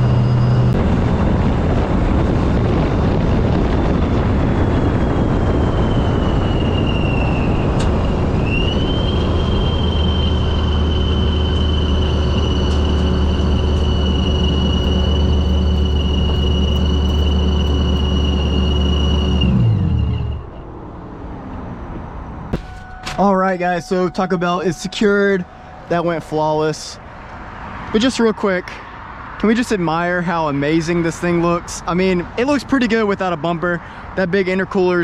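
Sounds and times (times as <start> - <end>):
supercharger whine: 0.0 - 28.2
car engine while driving: 0.0 - 29.5.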